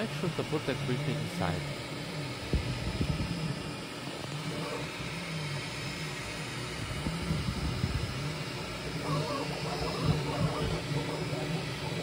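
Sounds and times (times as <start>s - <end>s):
cooling fan whirring: 0.0s - 12.0s
stepper motors whining: 0.0s - 12.0s.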